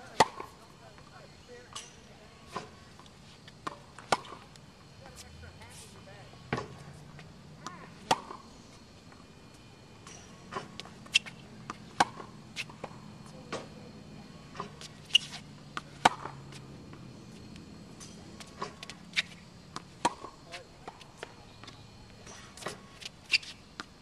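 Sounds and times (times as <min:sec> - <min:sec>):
faint low hum: 0:00.0 - 0:24.0
tennis balls struck by racquets: 0:00.0 - 0:24.0.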